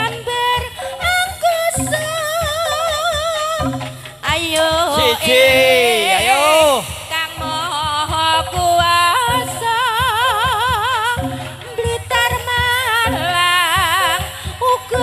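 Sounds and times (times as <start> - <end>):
drum strokes: 0.6 - 15.0.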